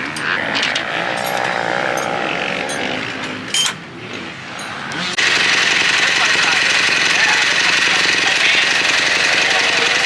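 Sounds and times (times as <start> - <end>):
dirt bike engines running: 0.0 - 10.0.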